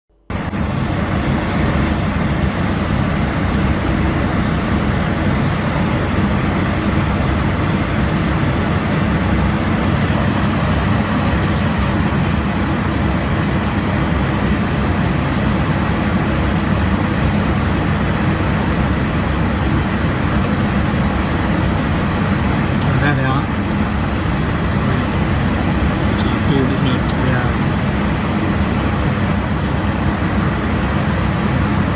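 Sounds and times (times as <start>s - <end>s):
aircraft cockpit engine rumble: 0.1s - 31.9s.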